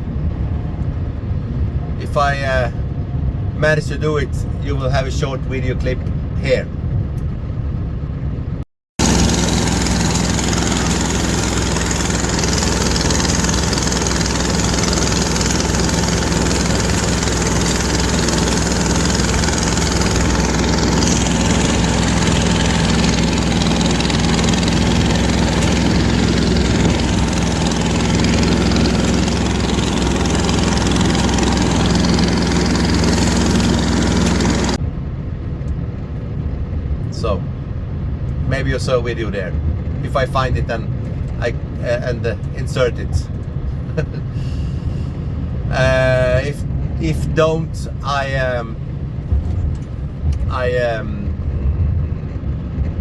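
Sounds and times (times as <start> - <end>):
diesel engine running: 6.2 - 53.0.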